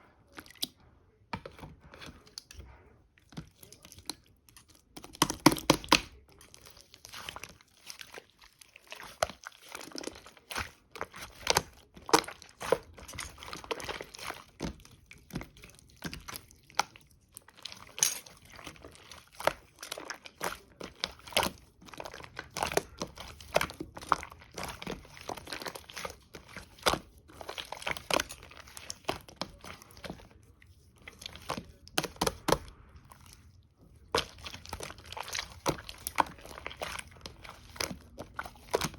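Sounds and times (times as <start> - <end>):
slime squishing with wet crackles: 0.0 - 38.9.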